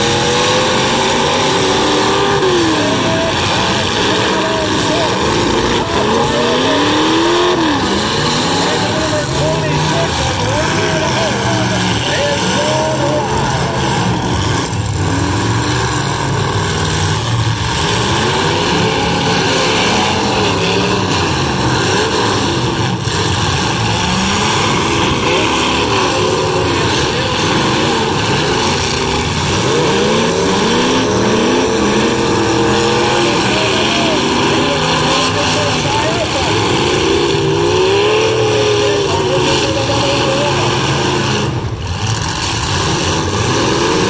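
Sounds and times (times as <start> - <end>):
unmuffled car engines revving: 0.0 - 44.0.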